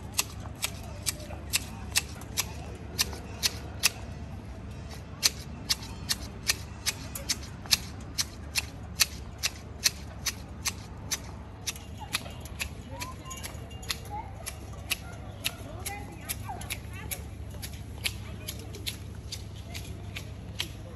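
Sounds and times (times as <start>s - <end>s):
hedge shears snipping: 0.1s - 4.0s, 5.1s - 20.9s.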